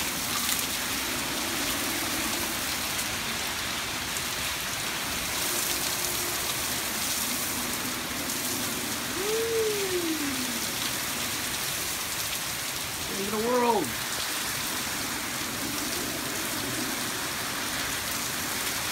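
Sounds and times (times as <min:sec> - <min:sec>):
heavy rain pouring: 0:00.0 - 0:18.9
wind: 0:00.0 - 0:18.9.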